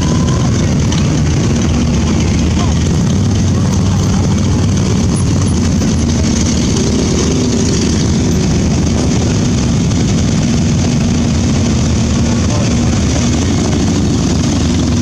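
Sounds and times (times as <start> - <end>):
motorcycles riding past: 0.0 - 15.0.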